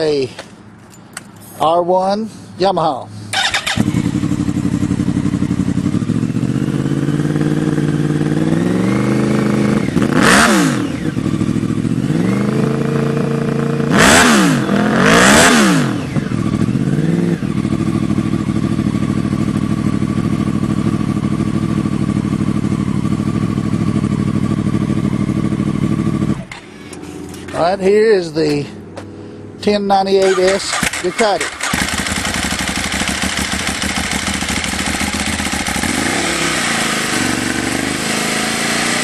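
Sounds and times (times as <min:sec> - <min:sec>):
motorcycle engine idling and revving: 0:03.2 - 0:39.0.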